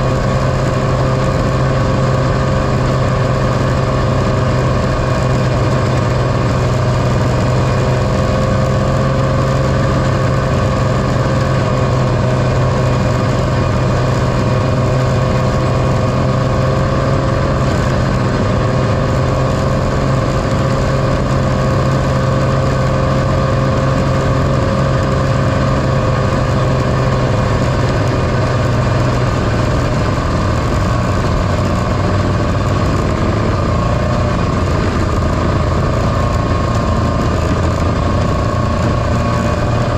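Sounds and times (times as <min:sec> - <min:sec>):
snowmobile two-stroke engine running: 0:00.0 - 0:39.9.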